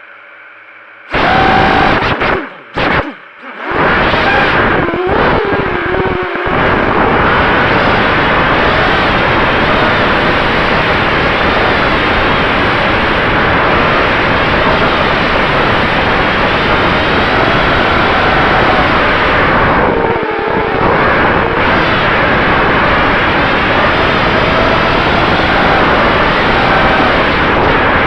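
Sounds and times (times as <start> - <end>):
quadcopter motors whining: 1.1 - 28.0
wind buffeting microphone: 1.2 - 28.0.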